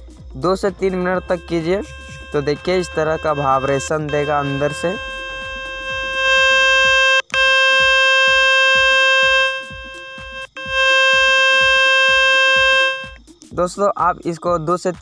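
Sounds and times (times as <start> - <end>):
background music with low beat: 0.0 - 15.0
steady buzzing tone: 0.8 - 13.3.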